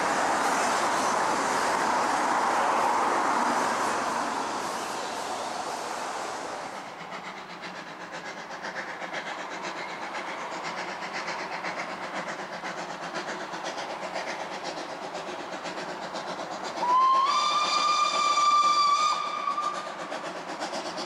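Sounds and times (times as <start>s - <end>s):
broad rushing noise: 0.0s - 21.0s
steam hiss: 0.0s - 21.0s
steam locomotive exhaust beating: 0.0s - 21.0s.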